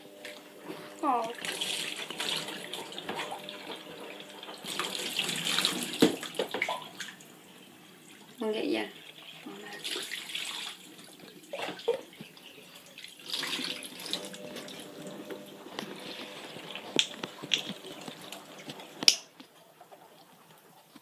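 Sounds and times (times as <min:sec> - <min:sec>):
water splashing in a steel sink: 0:00.2 - 0:21.0.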